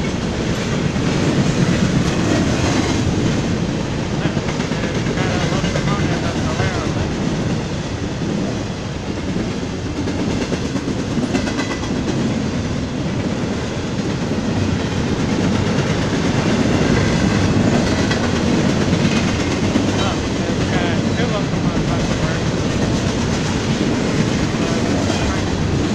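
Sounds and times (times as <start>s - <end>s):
clickety-clack of rail joints: 0.0s - 25.9s
freight train wheels rumbling on rails: 0.0s - 25.9s.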